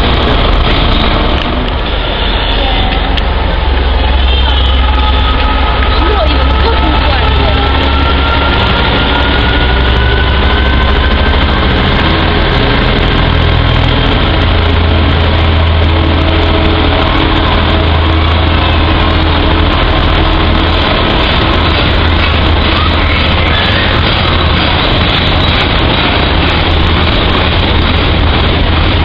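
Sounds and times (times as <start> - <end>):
diesel locomotive drone: 0.0 - 29.0
train wagons rolling over rails: 0.0 - 29.0.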